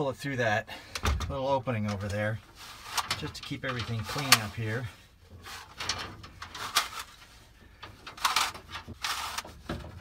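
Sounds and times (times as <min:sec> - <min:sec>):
cable scraping and rustling: 0:01.9 - 0:10.0.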